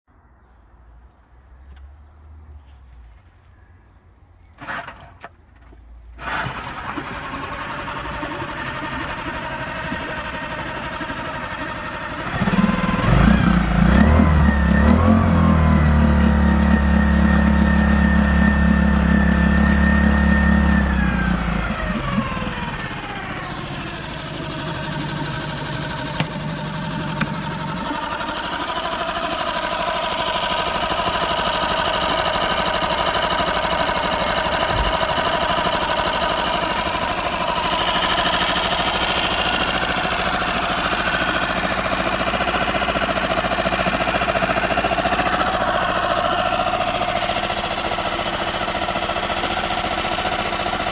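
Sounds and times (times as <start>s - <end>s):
outboard motor running: 6.2s - 50.9s.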